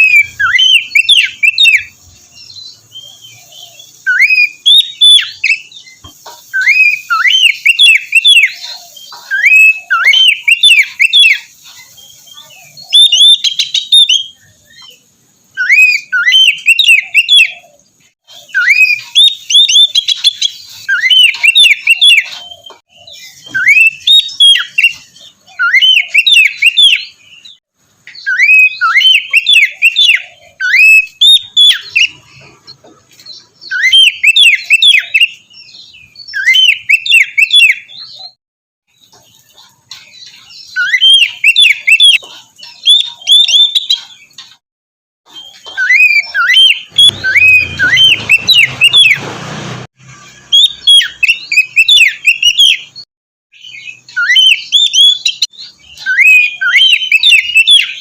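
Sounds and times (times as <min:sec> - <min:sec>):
bird singing whistled notes: 0:00.0 - 0:32.5, 0:33.4 - 0:38.4, 0:40.4 - 0:44.3, 0:45.3 - 0:49.2, 0:50.2 - 0:58.0.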